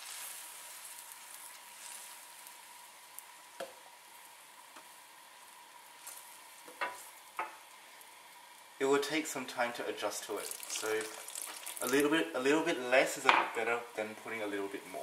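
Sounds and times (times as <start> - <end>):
broth simmering with faint hiss: 0.0 - 15.0.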